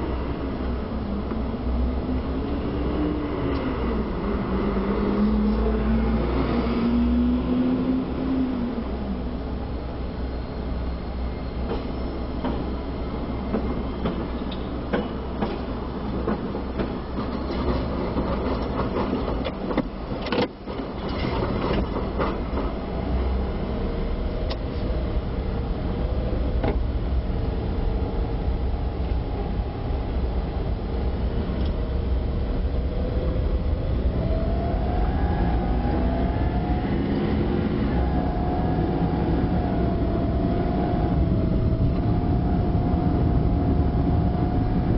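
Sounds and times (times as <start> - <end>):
streetcar rumbling on rails: 0.0 - 44.9.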